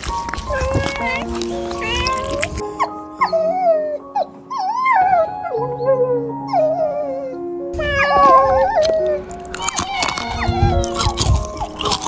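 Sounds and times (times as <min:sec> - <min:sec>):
sad background music: 0:00.0 - 0:12.0
animal whimpering howl-like cries: 0:00.3 - 0:12.0.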